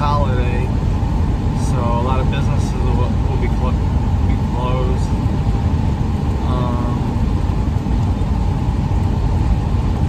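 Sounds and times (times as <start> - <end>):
van rumbling on road: 0.0 - 10.0.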